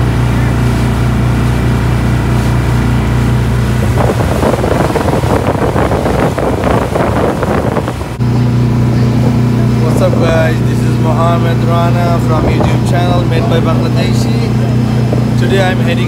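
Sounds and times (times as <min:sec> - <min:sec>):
boat engine running: 0:00.0 - 0:16.0
wind buffeting microphone: 0:00.0 - 0:16.0.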